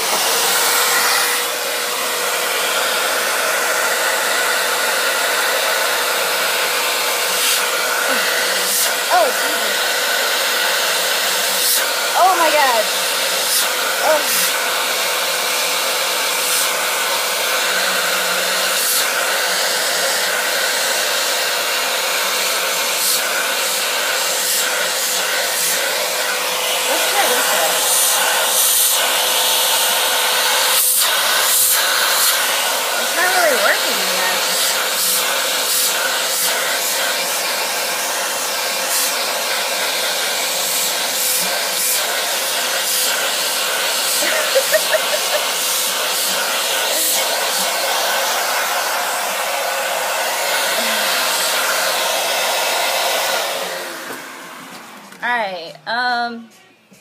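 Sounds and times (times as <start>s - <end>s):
vacuum cleaner humming: 0.0s - 55.6s.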